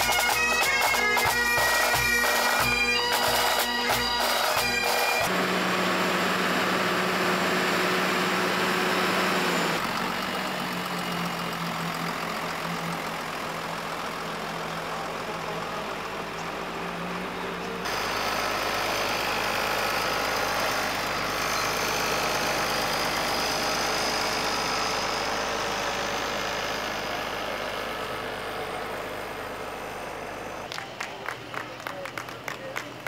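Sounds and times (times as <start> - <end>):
vehicle engines running slowly: 0.0 - 33.0.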